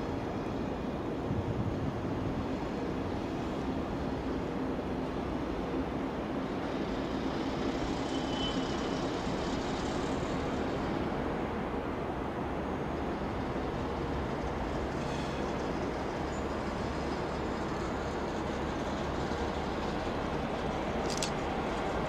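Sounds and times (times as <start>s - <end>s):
diesel locomotive engine humming: 0.0s - 22.0s.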